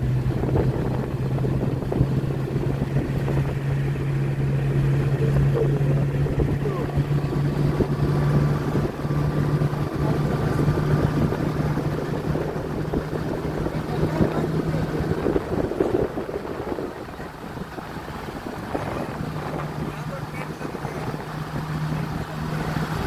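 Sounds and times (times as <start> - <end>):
road noise: 0.0 - 23.0
vehicle engine droning: 0.0 - 23.0
wind buffeting microphone: 0.0 - 23.0.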